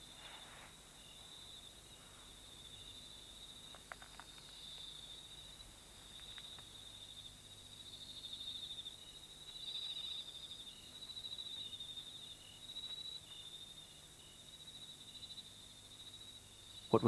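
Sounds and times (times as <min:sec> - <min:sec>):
crickets trilling: 0:00.0 - 0:17.0
insect chirps: 0:00.0 - 0:17.0.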